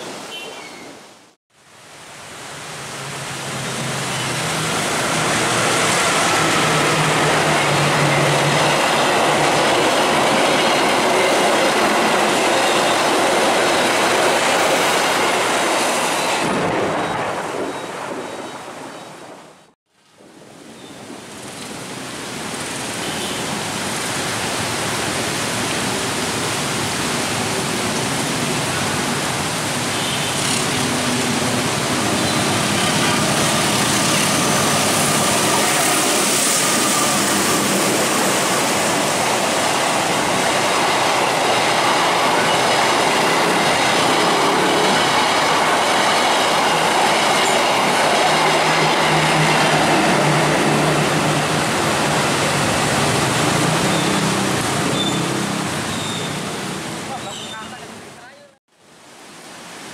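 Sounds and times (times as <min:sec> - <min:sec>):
heavy rain: 0:00.0 - 0:59.9
trains passing at speed: 0:01.8 - 0:58.6.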